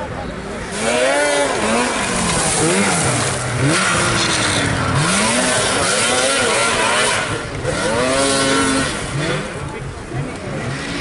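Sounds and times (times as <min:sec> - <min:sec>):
track and snow noise: 0:00.0 - 0:11.0
snowmobile engine revving: 0:00.2 - 0:11.0.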